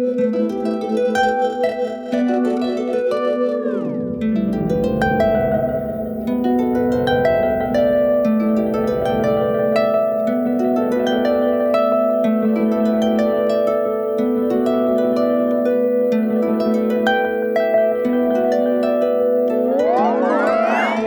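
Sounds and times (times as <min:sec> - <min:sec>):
harp with phased delay echoes: 0:03.6 - 0:21.0.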